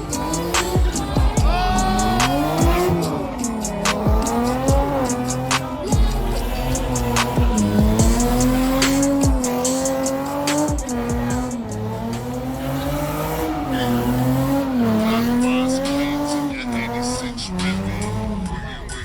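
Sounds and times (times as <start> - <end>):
car engine at high revs: 0.0 - 19.0
rap music with heavy bass: 0.0 - 19.0.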